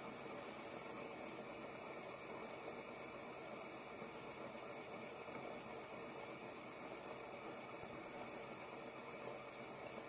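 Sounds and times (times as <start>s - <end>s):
fidget spinner whirring: 0.0s - 10.0s.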